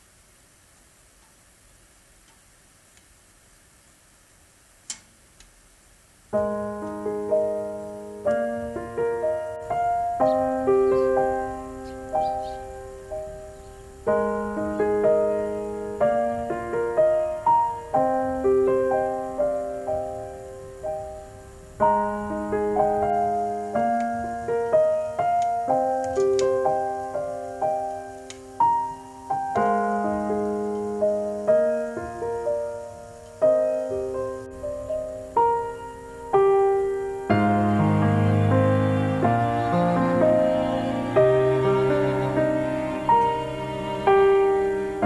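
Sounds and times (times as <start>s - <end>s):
piano music: 6.3s - 45.0s.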